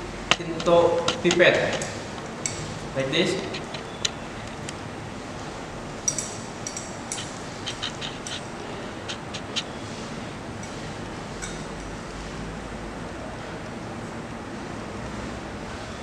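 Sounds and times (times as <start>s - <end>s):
steady room hiss: 0.0s - 16.0s.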